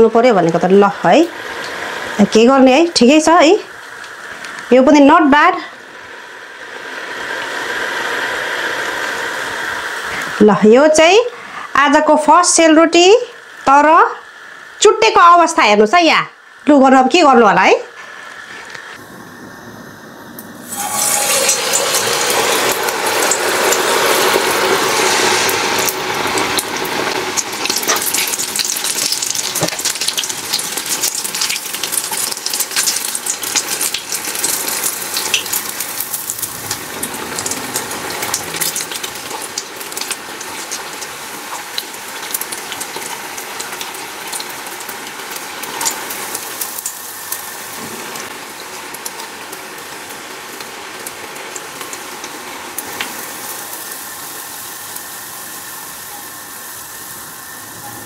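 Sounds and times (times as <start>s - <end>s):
batter sizzling in hot fat: 0.0s - 15.9s, 20.4s - 57.9s.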